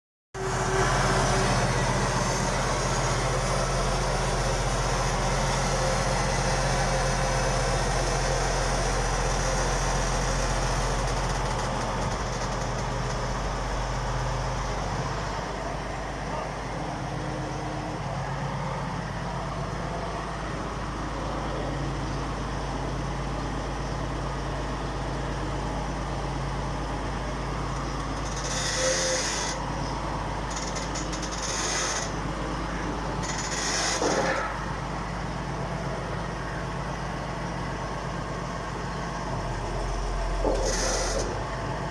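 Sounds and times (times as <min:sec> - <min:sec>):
drilling rig engine droning: 0:00.4 - 0:22.5, 0:27.7 - 0:41.9.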